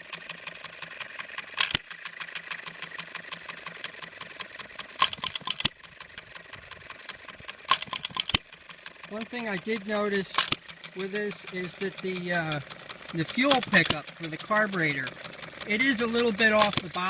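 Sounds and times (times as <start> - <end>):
small engine clicking: 0.0 - 17.0.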